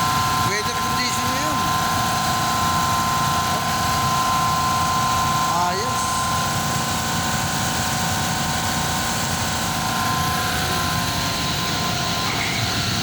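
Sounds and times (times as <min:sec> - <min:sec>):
air conditioning unit whirring: 0:00.0 - 0:13.0
steady hums: 0:00.0 - 0:13.0.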